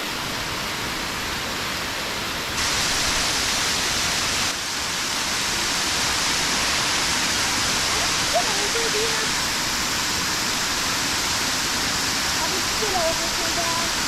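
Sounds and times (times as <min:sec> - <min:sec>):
water rushing over a dam: 0:00.0 - 0:14.0.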